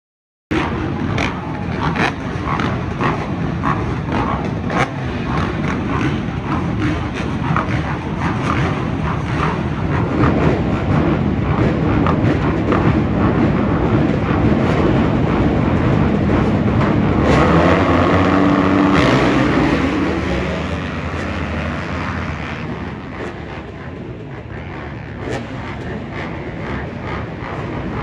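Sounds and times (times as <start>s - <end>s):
motocross engines revving: 0.6s - 28.0s.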